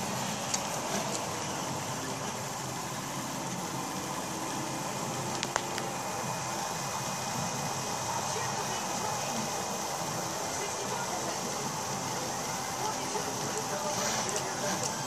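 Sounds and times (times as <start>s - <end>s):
printer whirring hiss: 0.0s - 15.0s.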